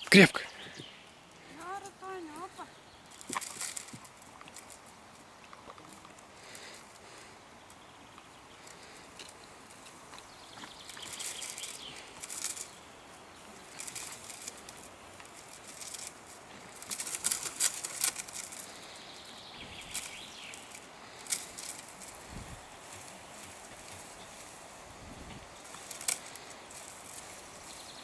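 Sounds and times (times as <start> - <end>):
rustling and scuffling in leaf litter: 1.4 - 7.8, 8.4 - 28.0.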